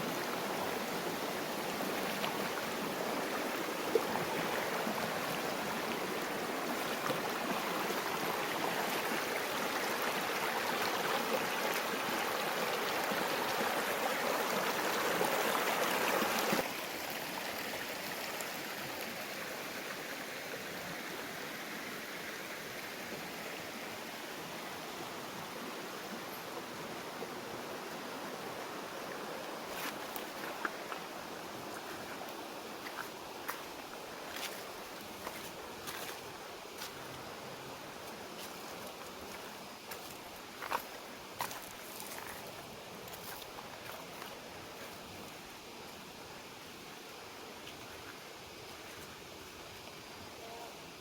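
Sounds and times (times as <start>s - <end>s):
rushing water: 0.0s - 51.0s.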